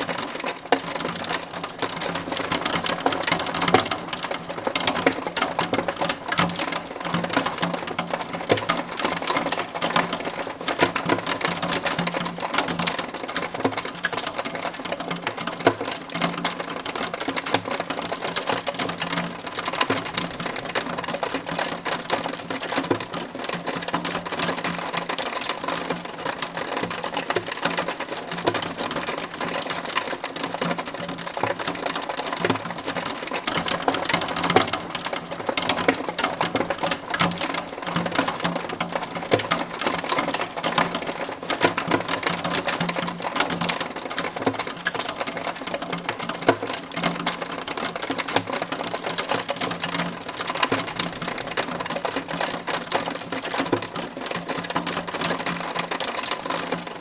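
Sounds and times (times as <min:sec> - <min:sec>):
hail and rain on window: 0:00.0 - 0:57.0.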